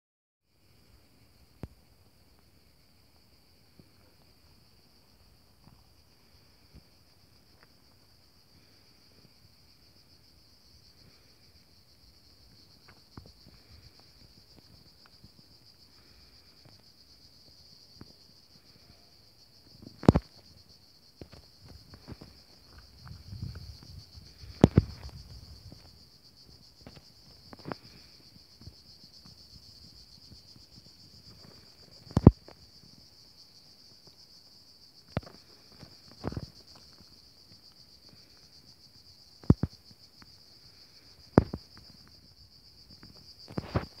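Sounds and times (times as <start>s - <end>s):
insects buzzing: 0.6s - 44.0s.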